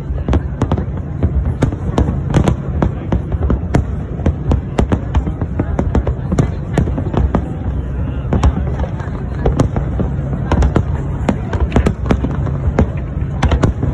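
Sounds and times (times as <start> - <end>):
fireworks bangs: 0.0 - 13.9.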